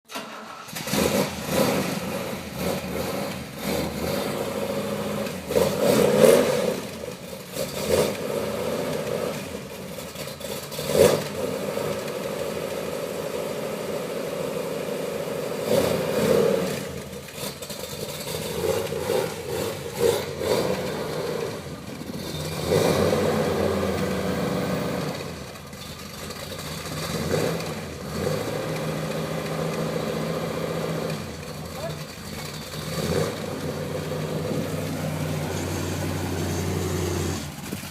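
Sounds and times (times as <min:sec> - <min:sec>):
car engine idling and revving: 0:00.1 - 0:37.9.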